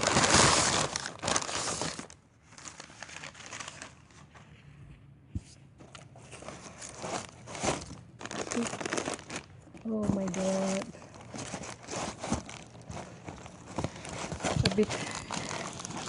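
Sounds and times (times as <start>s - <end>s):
packaging crinkling and tearing: 0.0s - 4.3s, 6.3s - 16.0s.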